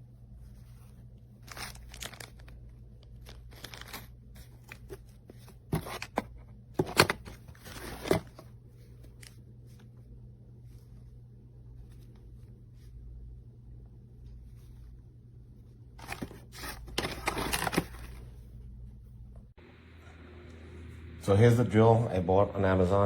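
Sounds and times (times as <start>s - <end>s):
handling rustling: 0.0s - 19.5s
steady low hum: 0.0s - 23.0s.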